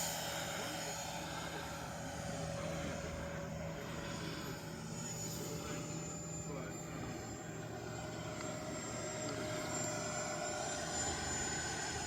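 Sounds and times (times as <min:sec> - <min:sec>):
model plane electric motor whine: 0:00.0 - 0:12.0.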